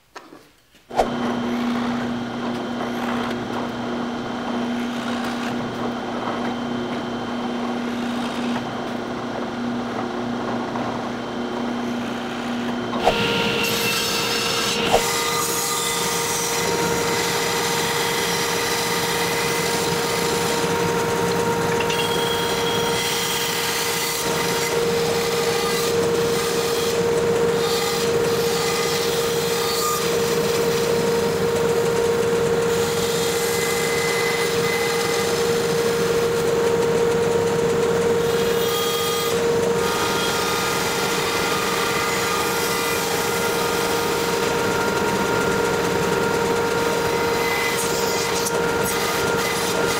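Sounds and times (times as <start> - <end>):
bandsaw cutting wood: 0.9 - 49.9.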